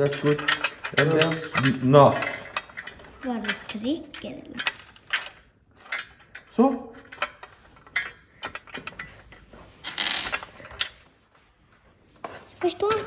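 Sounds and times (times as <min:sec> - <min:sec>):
metal bolts and nuts clinking: 0:00.0 - 0:13.0.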